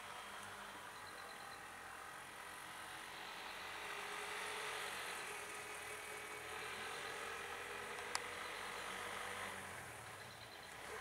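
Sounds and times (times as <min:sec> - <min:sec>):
auto-rickshaw engine running: 0:00.0 - 0:11.0.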